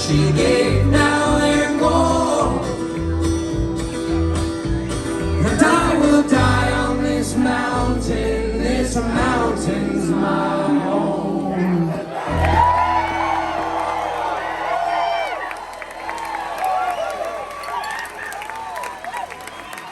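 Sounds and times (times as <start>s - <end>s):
country band playing: 0.0s - 10.5s, 12.1s - 18.0s
low bass notes: 0.0s - 16.6s.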